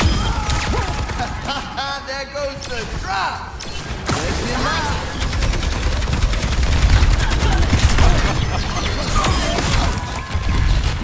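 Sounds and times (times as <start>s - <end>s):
rapid gunfire: 0.0s - 1.8s, 3.6s - 11.0s.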